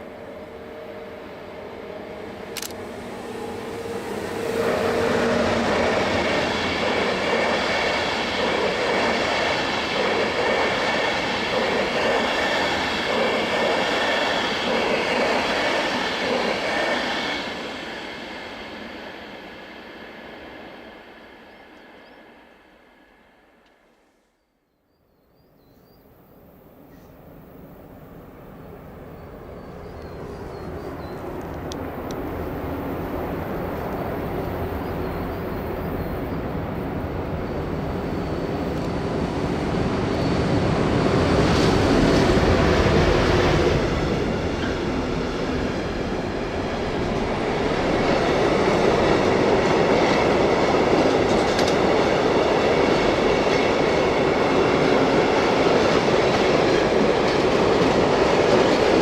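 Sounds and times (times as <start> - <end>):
train wheels on track: 0.0 - 24.0, 26.9 - 59.0.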